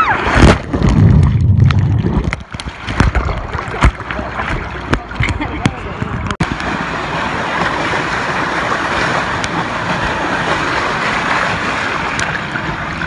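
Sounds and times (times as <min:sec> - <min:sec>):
low rumble: 0:00.0 - 0:11.4
water rushing down slide: 0:00.0 - 0:13.0.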